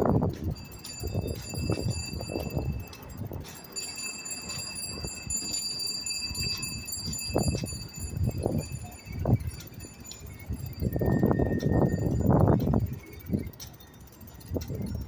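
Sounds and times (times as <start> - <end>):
thin steady high tones: 0.0 - 15.0
wind buffeting microphone: 0.0 - 15.0.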